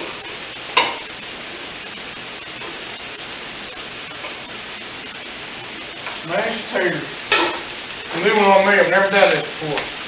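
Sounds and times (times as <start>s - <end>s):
food sizzling on griddle: 0.0s - 10.0s.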